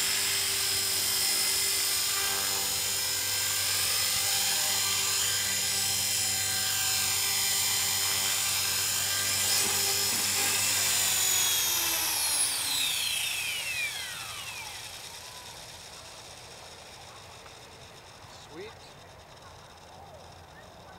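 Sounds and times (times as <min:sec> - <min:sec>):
rc helicopter motor whining: 0:00.0 - 0:20.9.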